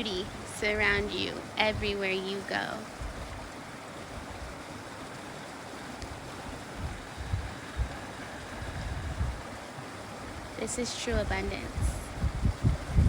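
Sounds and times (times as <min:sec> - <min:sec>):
wind buffeting microphone: 0:00.0 - 0:05.0, 0:05.8 - 0:13.0
river rushing: 0:00.0 - 0:12.2.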